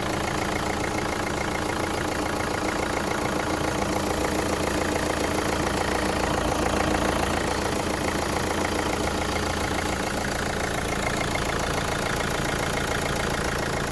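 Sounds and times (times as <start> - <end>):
diesel engine idling: 0.0 - 13.9.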